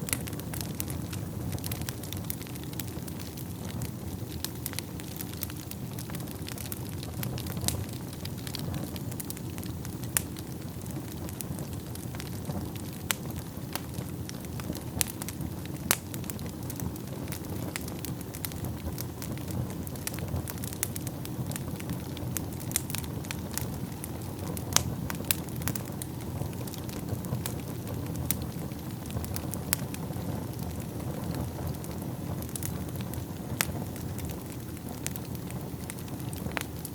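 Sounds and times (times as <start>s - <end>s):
fire crackling and popping: 0.0s - 36.9s.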